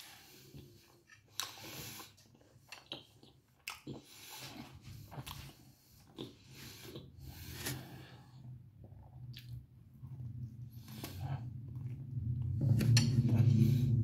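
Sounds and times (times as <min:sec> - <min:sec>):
person chewing bread: 0:00.0 - 0:14.0.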